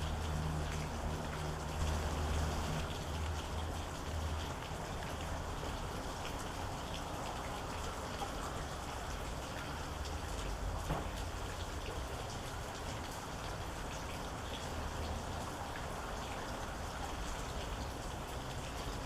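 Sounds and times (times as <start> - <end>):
raindrops ticking: 0.0 - 19.0
steady rain hiss: 0.0 - 19.0.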